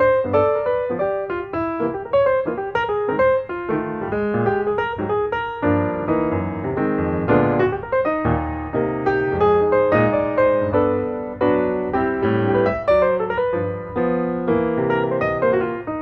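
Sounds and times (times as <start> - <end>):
piano melody over chords: 0.0 - 16.0.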